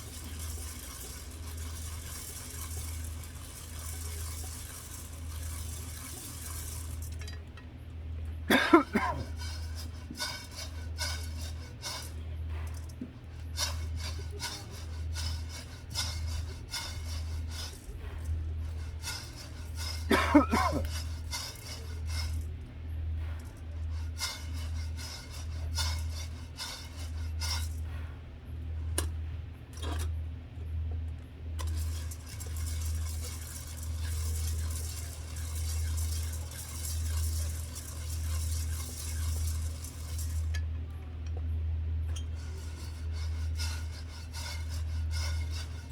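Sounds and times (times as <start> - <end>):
low pulsing hum: 0.0 - 45.9.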